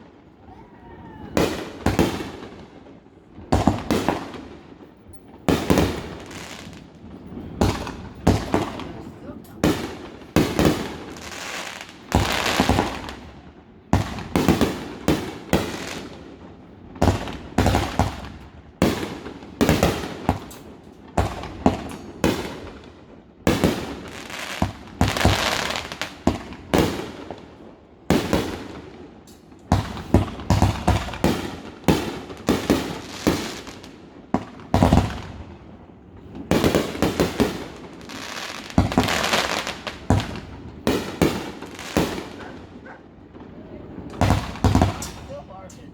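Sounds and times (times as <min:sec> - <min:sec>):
fireworks bursting with echo: 0:00.0 - 0:45.9.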